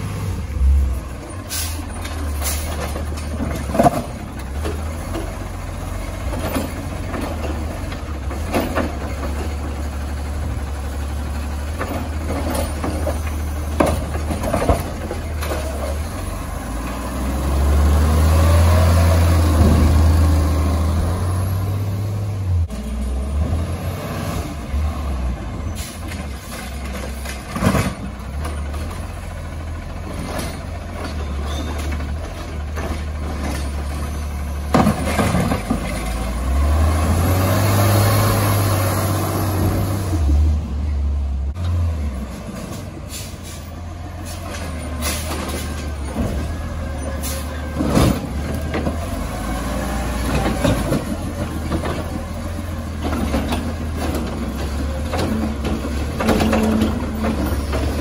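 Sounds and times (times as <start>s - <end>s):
garbage truck engine running: 0.0s - 23.8s, 24.4s - 58.0s.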